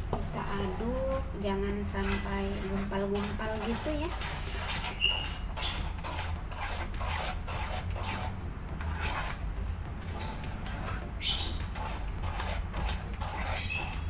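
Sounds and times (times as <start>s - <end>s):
spatula scraping batter in pan: 0.2s - 9.4s, 10.1s - 14.0s.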